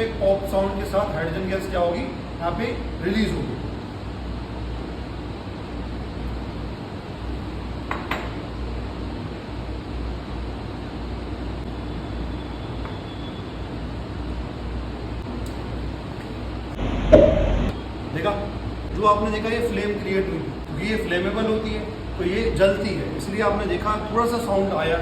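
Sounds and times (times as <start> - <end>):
steady room hum: 0.0 - 12.8, 13.4 - 25.0.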